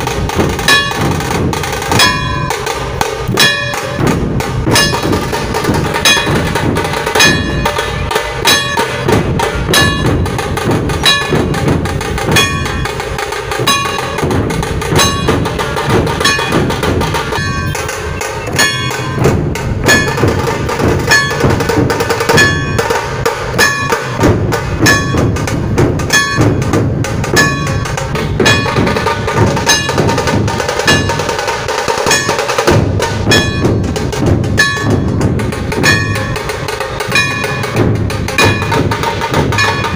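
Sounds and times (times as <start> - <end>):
barrel drums beating: 0.0 - 39.9
stick drum strokes: 0.0 - 39.9.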